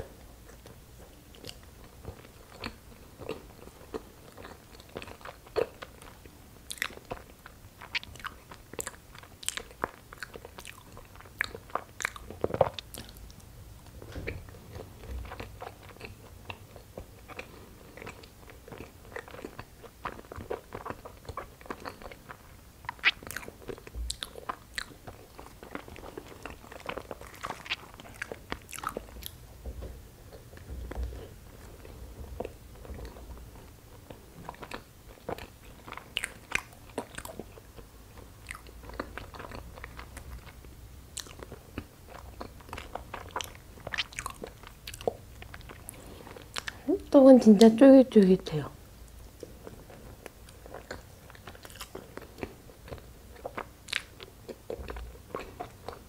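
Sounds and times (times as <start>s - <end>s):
person chewing with mouth clicks: 0.4s - 29.4s, 30.3s - 47.1s, 49.0s - 56.0s.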